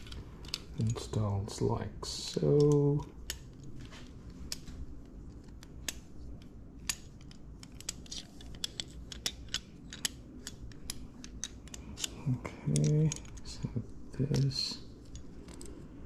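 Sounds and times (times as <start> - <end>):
metal parts clicking and tapping: 0.0 - 1.2, 2.0 - 16.0.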